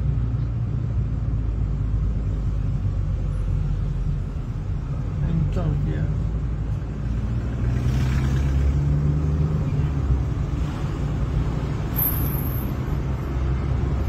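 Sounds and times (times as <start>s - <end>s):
car engine rumble: 0.0s - 14.0s
road noise hiss: 0.0s - 14.0s.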